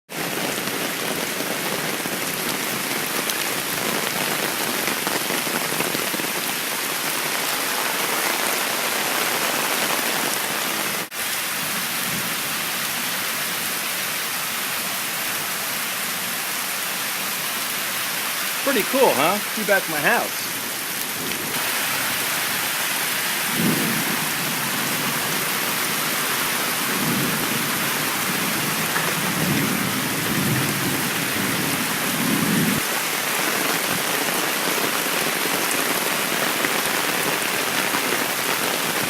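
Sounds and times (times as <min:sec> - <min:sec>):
heavy rain hissing: 0:00.1 - 0:39.0.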